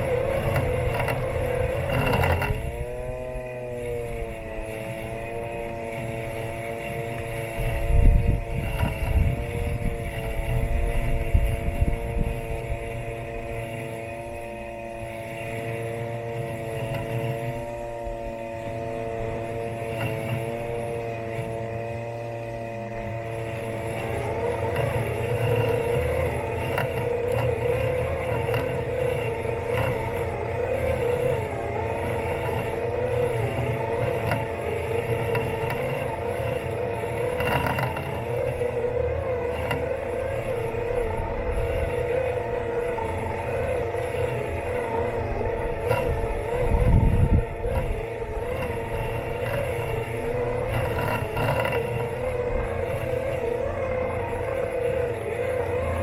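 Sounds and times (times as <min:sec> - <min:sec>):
electric motors humming: 0:00.0 - 0:56.0
wavering louder whine: 0:00.0 - 0:56.0.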